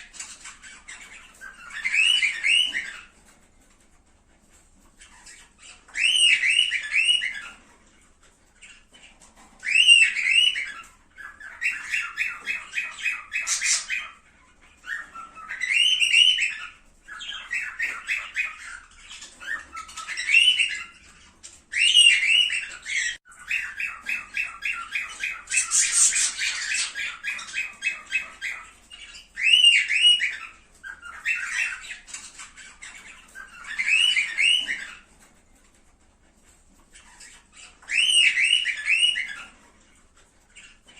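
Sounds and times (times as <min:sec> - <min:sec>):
cockatiels whistling: 0:00.0 - 0:03.4, 0:05.0 - 0:35.3, 0:36.9 - 0:40.9
cockatiels chirping rapidly: 0:00.0 - 0:40.9.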